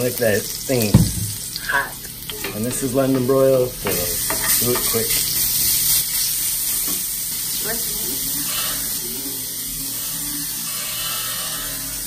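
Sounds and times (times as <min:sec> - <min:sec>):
meat and vegetables sizzling in skillet: 0:00.0 - 0:12.0.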